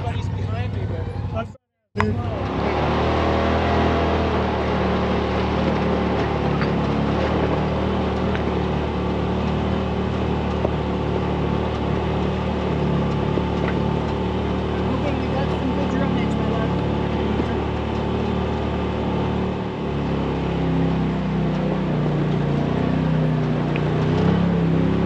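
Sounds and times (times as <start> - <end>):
utility vehicle engine running: 0.0 - 25.0.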